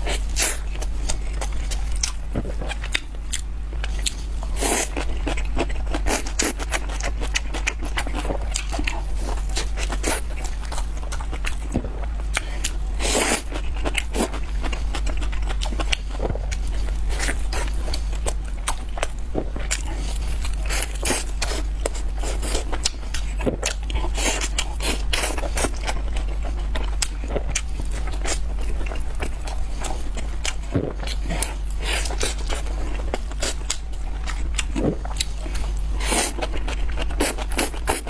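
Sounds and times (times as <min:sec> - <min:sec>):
crunchy chewing: 0:00.0 - 0:38.0
steady low hum: 0:00.0 - 0:38.0.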